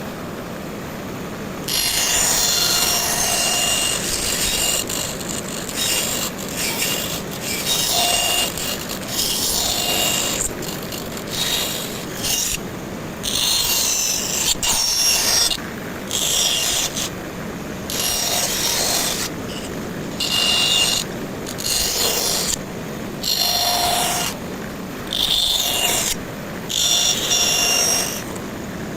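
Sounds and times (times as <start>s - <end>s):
woodworking tool scraping strokes: 1.7s - 12.6s, 13.2s - 17.2s, 17.8s - 22.6s, 23.2s - 24.4s, 25.1s - 28.4s.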